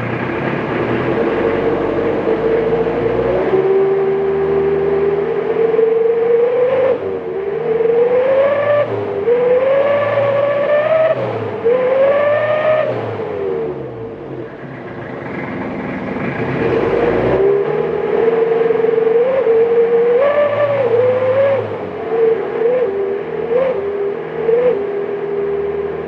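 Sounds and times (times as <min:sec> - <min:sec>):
car engine revving: 0:00.0 - 0:26.0
exhaust whistling howl: 0:00.0 - 0:26.0.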